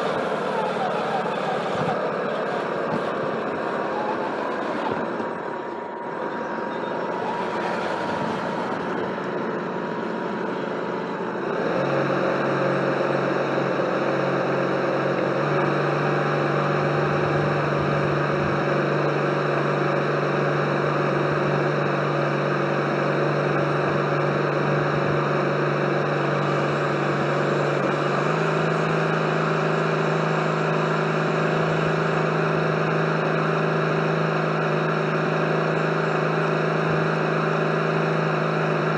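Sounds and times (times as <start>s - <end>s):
model boat motor hum: 0.0s - 38.9s.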